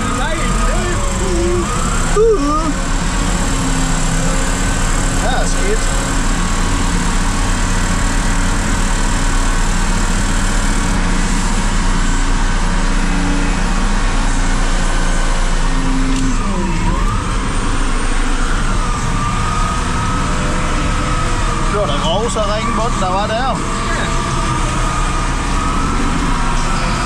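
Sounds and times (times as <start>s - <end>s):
diesel engine running: 0.0s - 27.0s
hydraulic whine: 0.0s - 27.0s.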